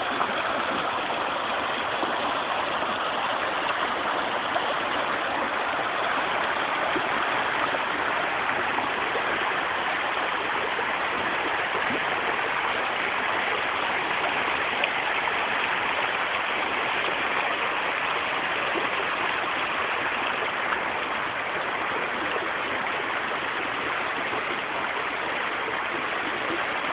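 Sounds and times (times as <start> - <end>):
stream rushing over pebbles: 0.0 - 26.9.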